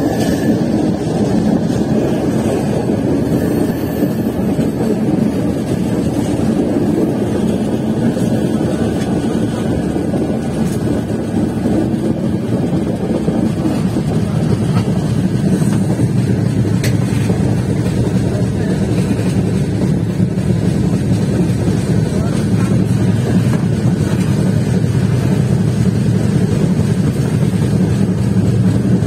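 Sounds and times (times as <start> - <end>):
train wheels rumbling: 0.0 - 29.0.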